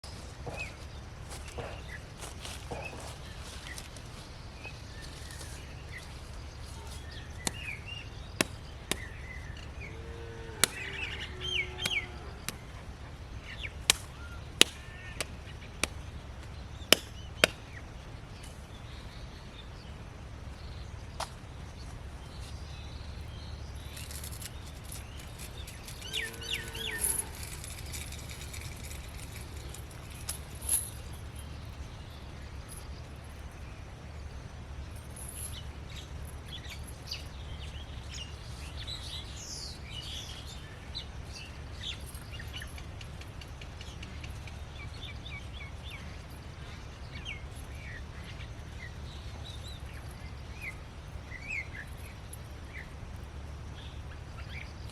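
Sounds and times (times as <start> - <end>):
birds chirping: 0.0 - 54.9
steady low hum: 0.0 - 54.9.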